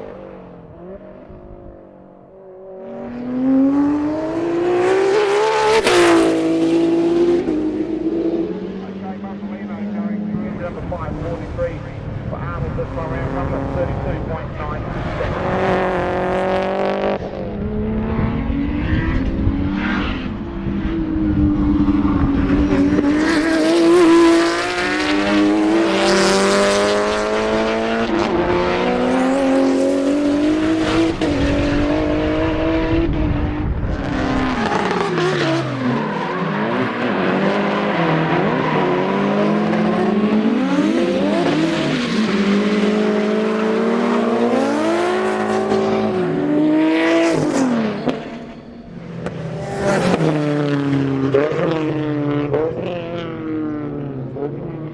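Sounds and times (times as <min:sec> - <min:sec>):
race car engines revving: 0:00.0 - 0:54.9.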